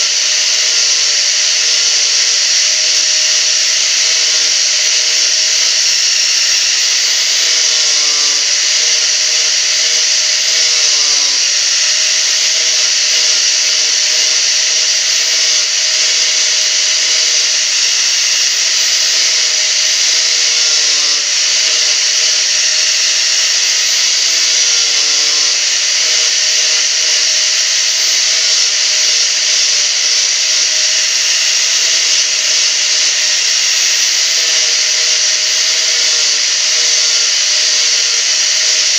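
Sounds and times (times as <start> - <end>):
angle grinder grinding wood: 0.0 - 38.9.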